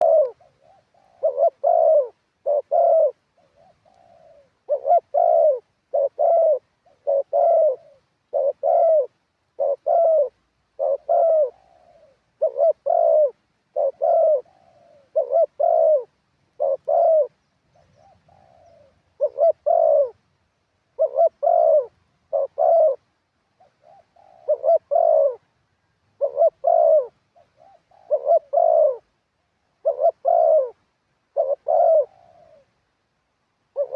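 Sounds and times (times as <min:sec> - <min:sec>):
dove cooing: 0:00.0 - 0:20.3, 0:20.9 - 0:32.8, 0:33.7 - 0:33.9.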